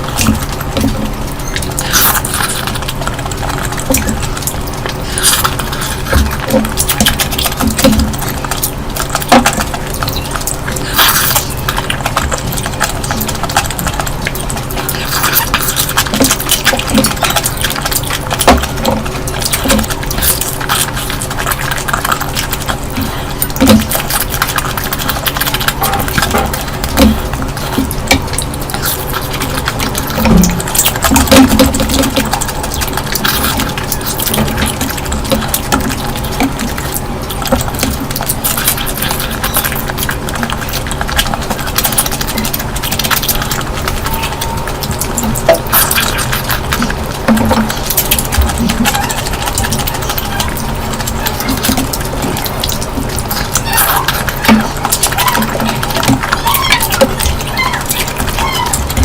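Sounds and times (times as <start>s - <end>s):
faint steady hum: 0.0s - 59.0s
mouth clicks and smacks: 0.0s - 59.0s
wet squelching of food: 0.0s - 59.0s.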